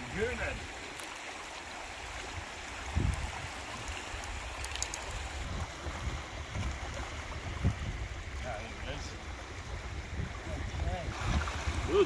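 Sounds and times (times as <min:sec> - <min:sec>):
wind buffeting microphone: 0:02.1 - 0:12.0.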